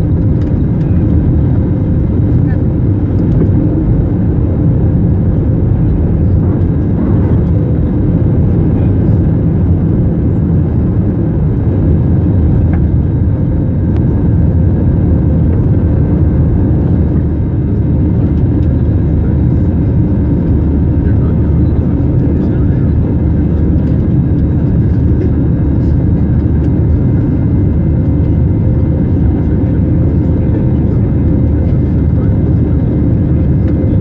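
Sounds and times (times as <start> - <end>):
jet engines roaring from cabin: 0.0 - 34.0.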